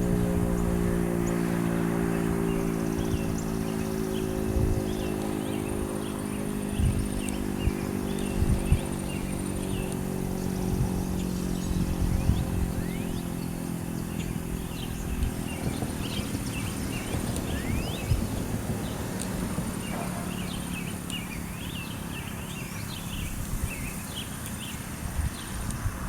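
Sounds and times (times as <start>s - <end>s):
low steady hum: 0.0s - 24.7s
birds chirping: 0.0s - 26.0s
wind buffeting microphone: 0.0s - 26.0s.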